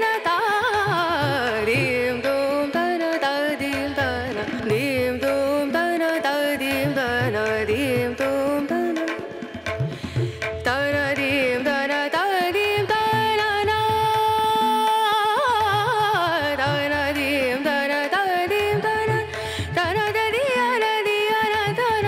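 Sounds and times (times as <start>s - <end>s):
indian classical-style melody: 0.0s - 22.0s.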